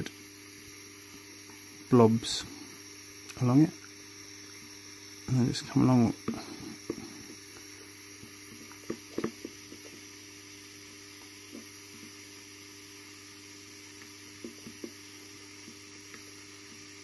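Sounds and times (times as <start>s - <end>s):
soldering iron hiss and hum: 0.0s - 17.0s.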